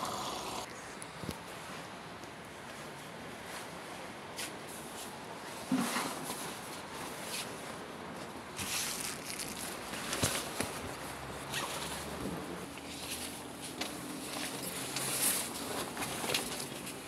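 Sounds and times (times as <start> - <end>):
plastic sheeting rustling: 2.6 - 17.0.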